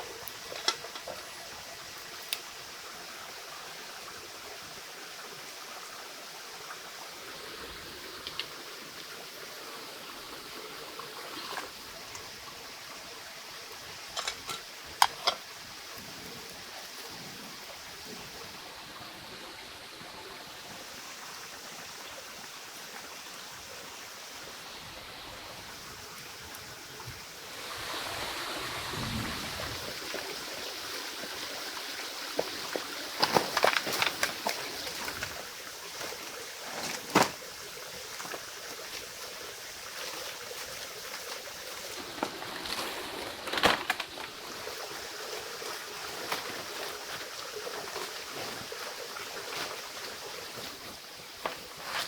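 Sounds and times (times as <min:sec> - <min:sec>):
stream water flowing: 0:00.0 - 0:52.0.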